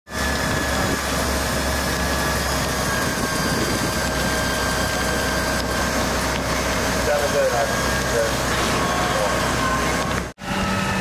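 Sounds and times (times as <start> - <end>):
broad rushing noise: 0.1 - 11.0
diesel engine running: 0.1 - 11.0
thin steady whine: 0.1 - 11.0.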